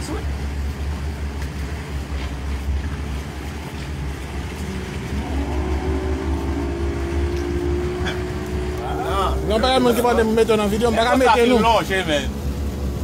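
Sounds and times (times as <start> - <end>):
motorboat engine drone: 0.0 - 13.0
wind and water rushing: 0.0 - 13.0.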